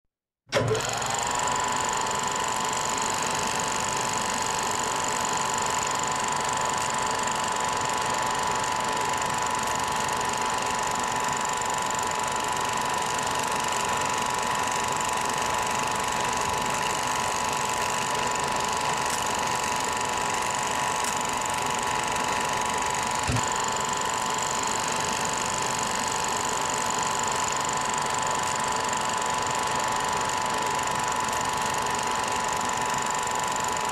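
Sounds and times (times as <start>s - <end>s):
small machine clattering hum: 0.5s - 33.9s.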